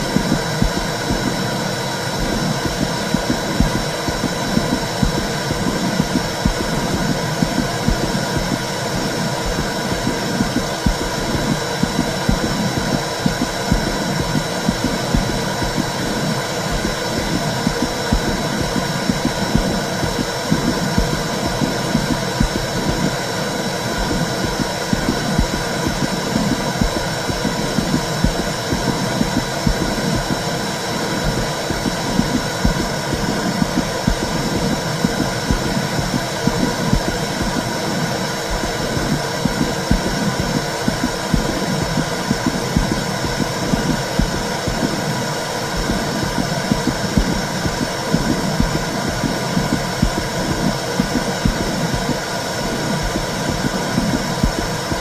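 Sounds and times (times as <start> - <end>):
soft heartbeat pulses: 0.0 - 55.0.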